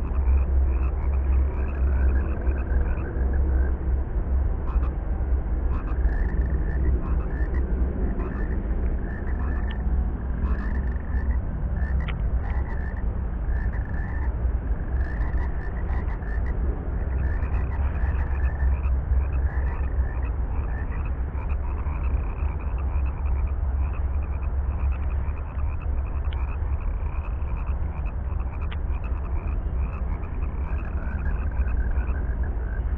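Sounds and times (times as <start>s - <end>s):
frogs croaking: 0.0s - 32.9s.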